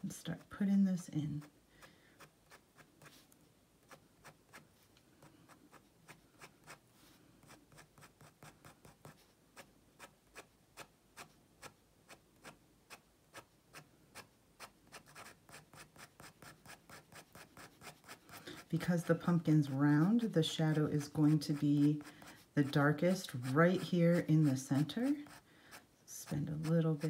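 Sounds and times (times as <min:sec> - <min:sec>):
marker scratching on paper: 0:02.2 - 0:27.0.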